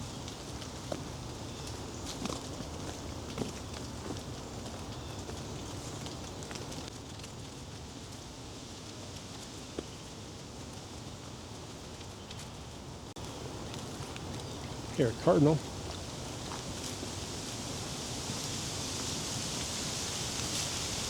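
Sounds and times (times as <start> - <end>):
faint ticks and crackles: 0.0 - 21.0
outdoor background noise: 0.0 - 21.0.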